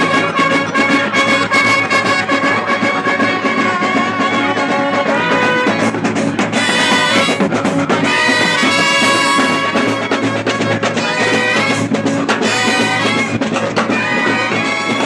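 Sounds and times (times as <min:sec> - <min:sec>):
brass horns holding notes: 0:00.0 - 0:15.0
drums beating a busy rhythm: 0:00.0 - 0:15.0.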